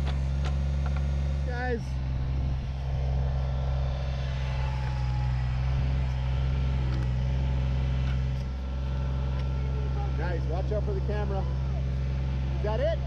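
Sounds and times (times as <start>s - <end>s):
tractor diesel engine running: 0.0s - 13.0s
faint thin whine: 1.8s - 12.9s.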